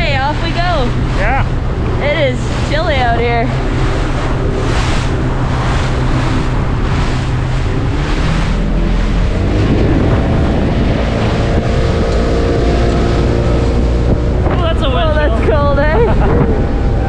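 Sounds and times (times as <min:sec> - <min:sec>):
hull slapping through waves: 0:00.0 - 0:17.0
motorboat engine running: 0:00.0 - 0:17.0
wind buffeting microphone: 0:00.0 - 0:17.0.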